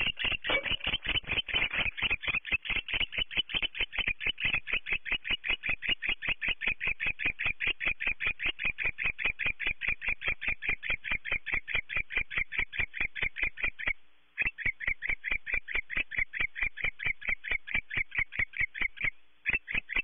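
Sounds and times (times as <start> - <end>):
animal clicking chirps: 0.0 - 20.0.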